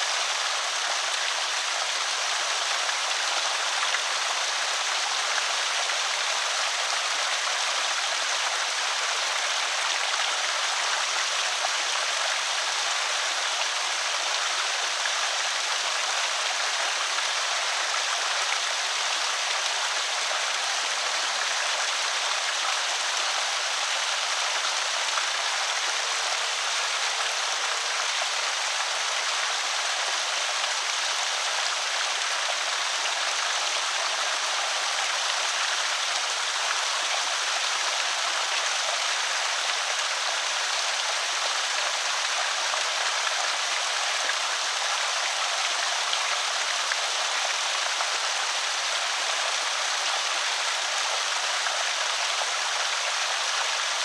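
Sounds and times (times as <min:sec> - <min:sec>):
water pouring over a spillway: 0:00.0 - 0:54.0.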